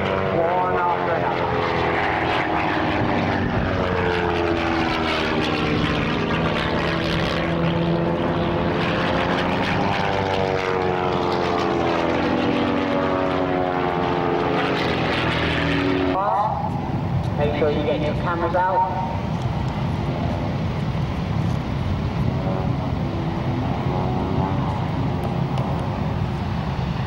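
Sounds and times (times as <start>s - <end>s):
propeller aircraft engines passing: 0.0s - 27.0s.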